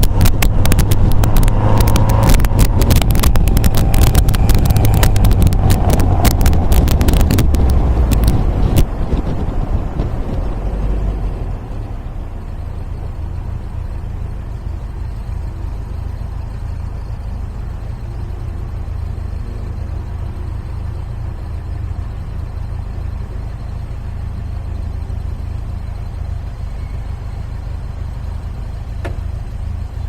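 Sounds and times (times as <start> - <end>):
car engine droning: 0.0 - 30.0
road and wind noise: 0.0 - 30.0.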